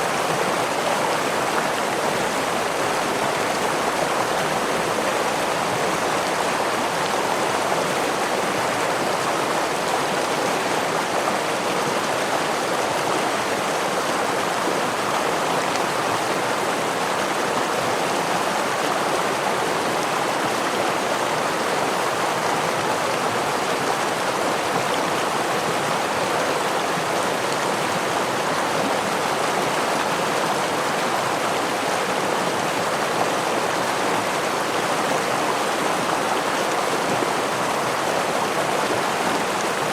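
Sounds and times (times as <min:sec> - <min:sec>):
stream rushing over waterfall: 0:00.0 - 0:39.9.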